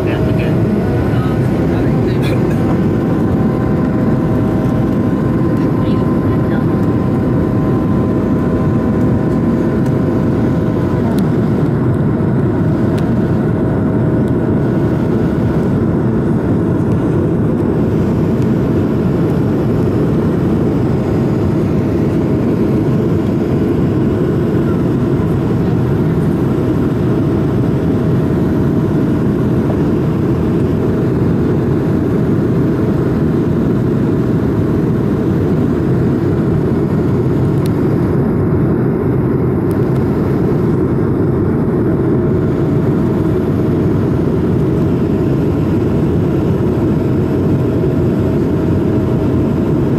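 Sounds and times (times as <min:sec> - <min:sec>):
airplane cabin engine rush: 0:00.0 - 0:49.9
faint steady engine tones: 0:00.0 - 0:49.9.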